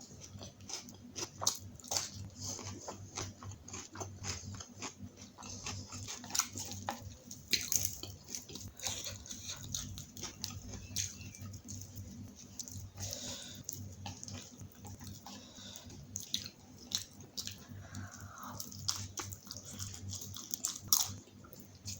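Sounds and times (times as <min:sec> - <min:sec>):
person chewing and biting: 0:00.0 - 0:21.9.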